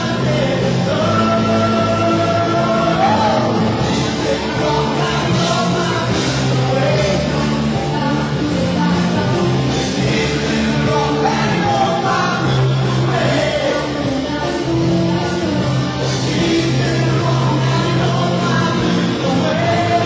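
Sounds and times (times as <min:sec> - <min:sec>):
live rock band playing: 0:00.0 - 0:20.0
person singing: 0:00.0 - 0:20.0.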